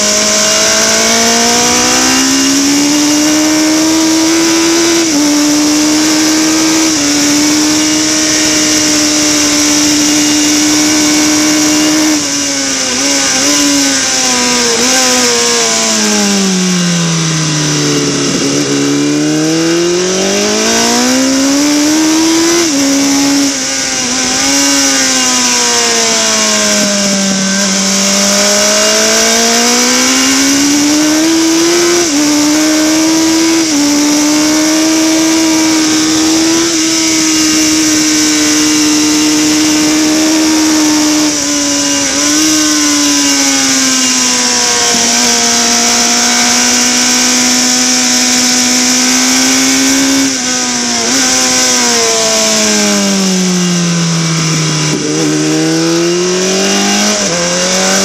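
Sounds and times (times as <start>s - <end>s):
motorcycle engine at racing revs: 0.0s - 58.0s.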